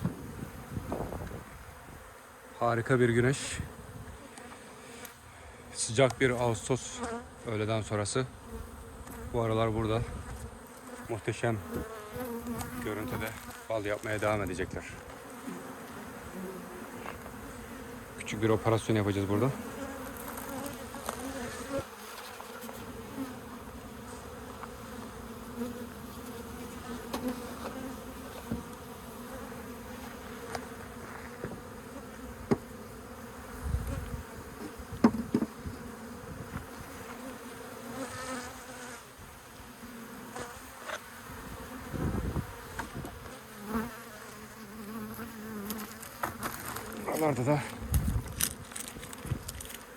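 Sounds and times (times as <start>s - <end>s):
bees buzzing: 0.0s - 49.9s.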